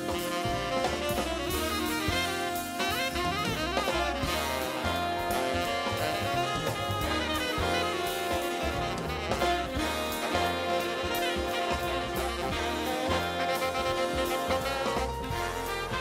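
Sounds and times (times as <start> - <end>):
big-band jazz music: 0.0 - 16.0.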